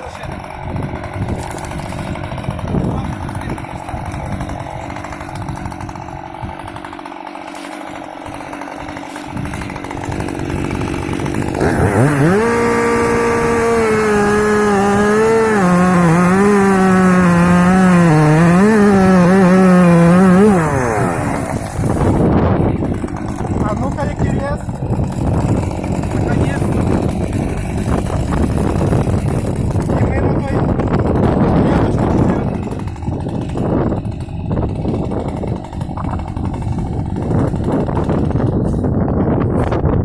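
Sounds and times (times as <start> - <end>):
chainsaw engine revving: 0.0 - 39.0.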